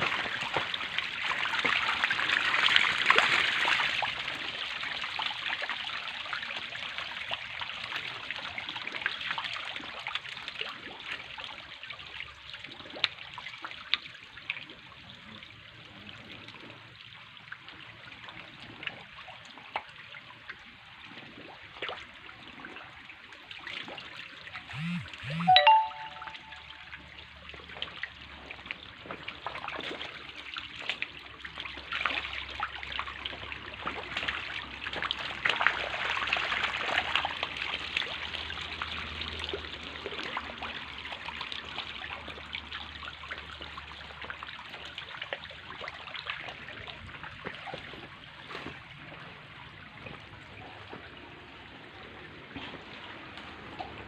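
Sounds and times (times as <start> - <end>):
water trickling and splashing: 0.0 - 24.7, 27.2 - 54.0.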